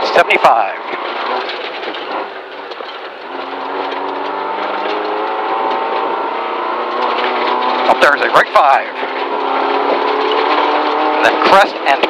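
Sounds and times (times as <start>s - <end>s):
rally car engine accelerating: 0.0s - 12.0s
road noise: 0.0s - 12.0s.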